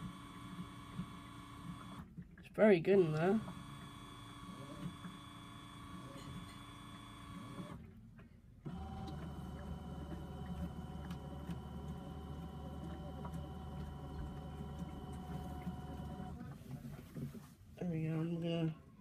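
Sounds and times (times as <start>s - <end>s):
small washing machine motor humming: 0.0s - 17.2s.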